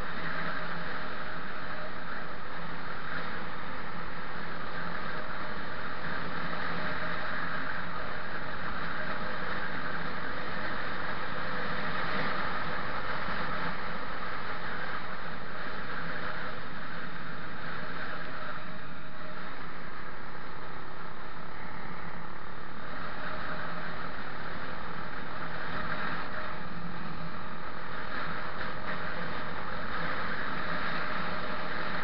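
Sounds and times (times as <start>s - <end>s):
faint engine hum: 0.0s - 32.0s.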